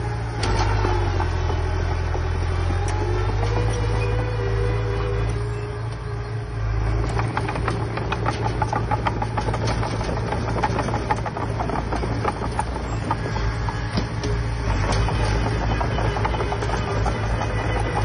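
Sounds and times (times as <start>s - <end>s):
clatter of knocks and rattles: 0.0s - 5.5s, 6.8s - 18.0s
heavy diesel machinery running: 0.0s - 18.0s.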